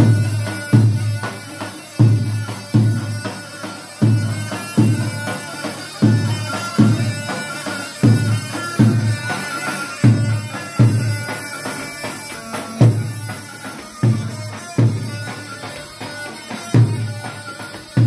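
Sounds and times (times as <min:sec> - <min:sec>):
reedy pipe melody: 0:00.0 - 0:18.0.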